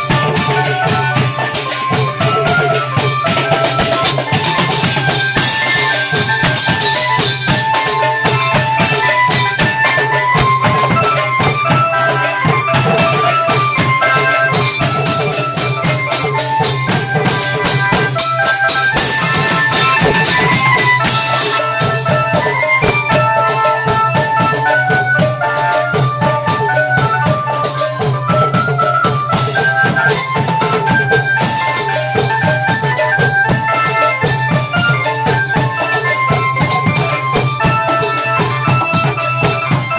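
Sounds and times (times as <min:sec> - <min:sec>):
drum ensemble playing: 0:00.0 - 0:39.9.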